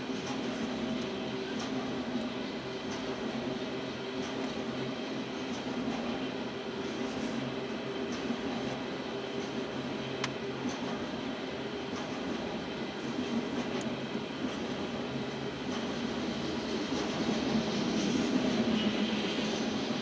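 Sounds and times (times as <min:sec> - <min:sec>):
freight train rumbling and rattling: 0:00.0 - 0:20.0.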